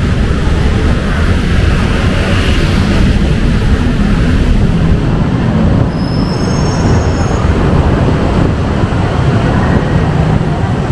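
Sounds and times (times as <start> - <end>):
rumble of passing vehicles: 0.0 - 10.9.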